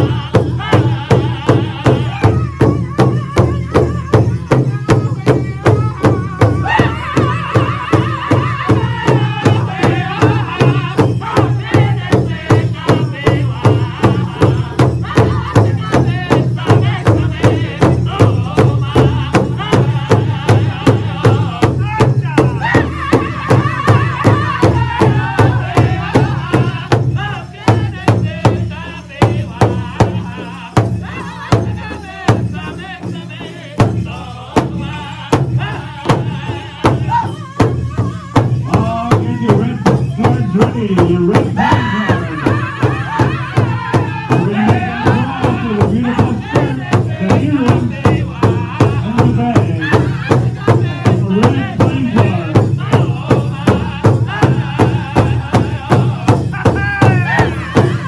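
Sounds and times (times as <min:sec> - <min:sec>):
large drum steady beat: 0:00.0 - 0:58.0
voices singing: 0:00.0 - 0:58.0.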